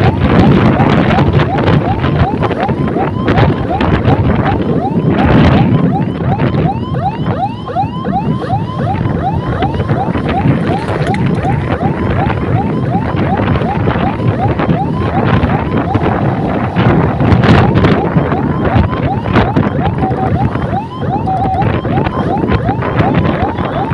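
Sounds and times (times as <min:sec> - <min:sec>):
electronic siren yelping: 0:00.0 - 0:23.9
wind rushing on microphone: 0:00.0 - 0:23.9.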